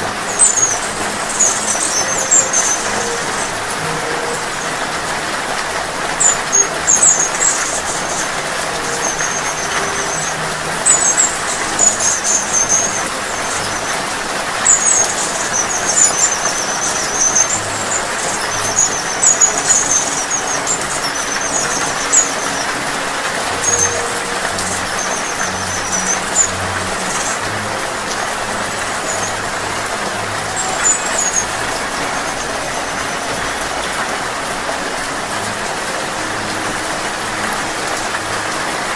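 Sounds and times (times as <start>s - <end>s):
hummingbird chirps: 0.0s - 38.3s
steady rain falling: 0.0s - 38.9s.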